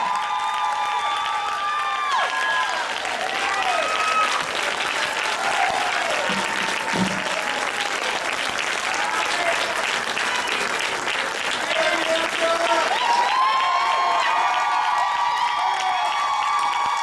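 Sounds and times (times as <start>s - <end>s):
congregation applauding: 0.0s - 17.0s.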